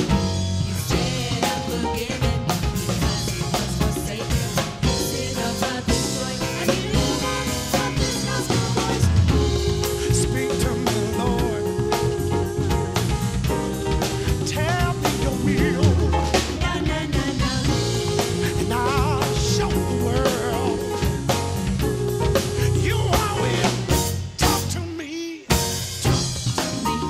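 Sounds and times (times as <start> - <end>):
gospel band playing: 0.0 - 27.0
group singing: 0.8 - 24.7.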